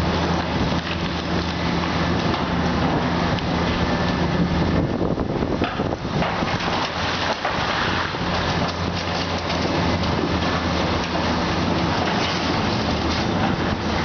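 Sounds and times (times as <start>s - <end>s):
crackling gritty noise: 0.0s - 14.0s
diesel engine running: 0.0s - 14.0s.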